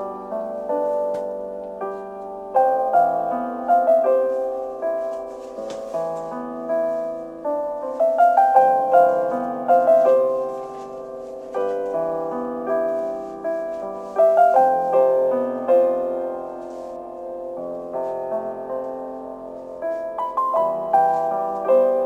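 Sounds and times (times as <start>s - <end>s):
gentle solo piano piece: 0.0s - 22.0s.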